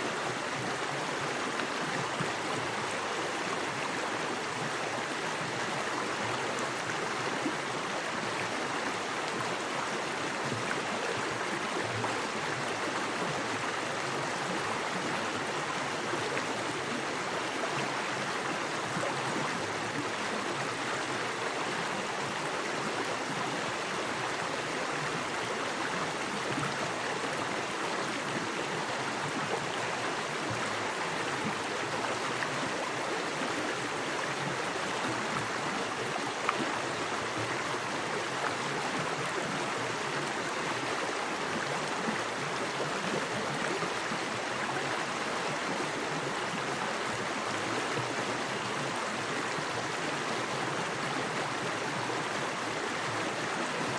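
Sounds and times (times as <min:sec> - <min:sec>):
creek water rushing over rocks: 0:00.0 - 0:53.9.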